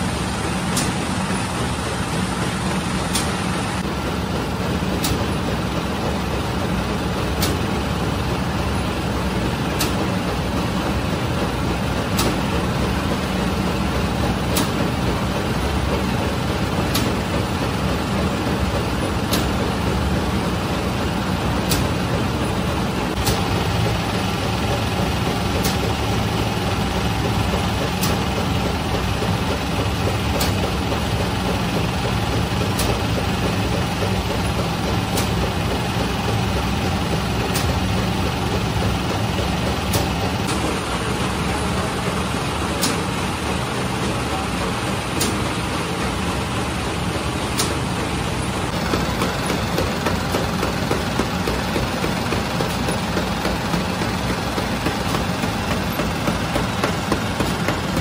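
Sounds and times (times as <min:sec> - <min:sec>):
oven motor and fan hum: 0:00.0 - 0:58.0.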